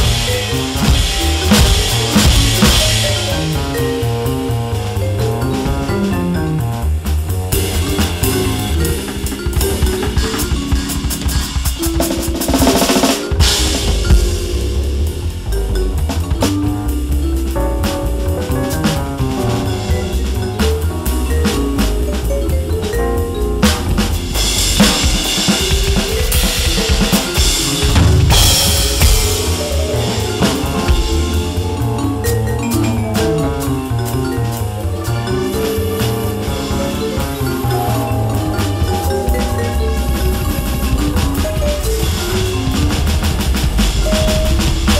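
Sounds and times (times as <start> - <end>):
bass line: 0.0 - 44.9
cymbals ringing: 0.0 - 44.9
electronic drum kit jazz beat: 0.0 - 44.9
keyboard notes: 0.0 - 44.9
sequenced backing track: 0.0 - 44.9.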